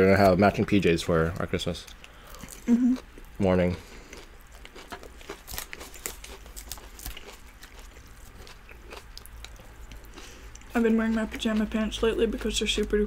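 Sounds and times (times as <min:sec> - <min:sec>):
person chewing food: 0:01.2 - 0:13.0.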